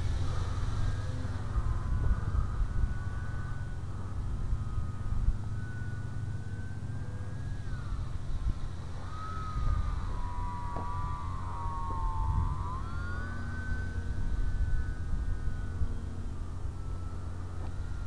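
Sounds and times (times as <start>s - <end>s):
electric motor and propeller whining: 0.0s - 18.0s
low rumble: 0.0s - 18.0s.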